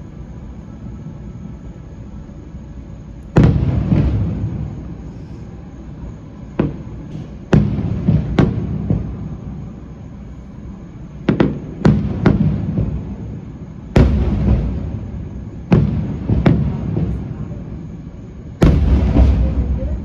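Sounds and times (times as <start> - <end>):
fireworks booming: 3.3 - 20.0.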